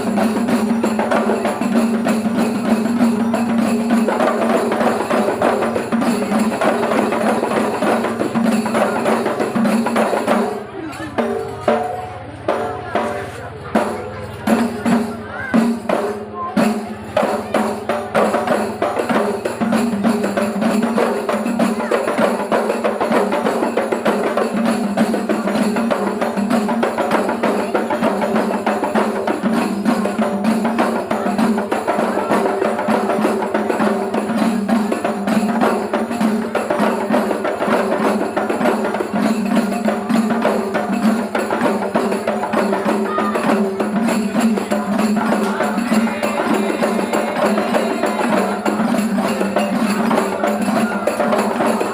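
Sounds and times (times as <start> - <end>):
frame drums beating fast: 0.0 - 51.9.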